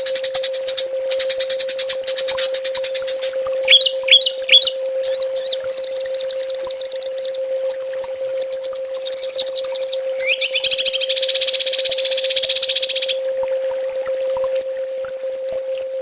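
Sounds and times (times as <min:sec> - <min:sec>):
songbird trilling: 0:00.0 - 0:13.2
steady low hum: 0:00.0 - 0:16.0.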